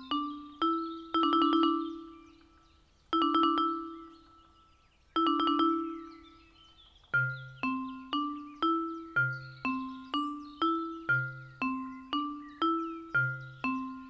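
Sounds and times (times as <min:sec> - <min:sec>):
faint bird chirps: 0:00.0 - 0:14.0
mallet percussion music: 0:00.0 - 0:14.0.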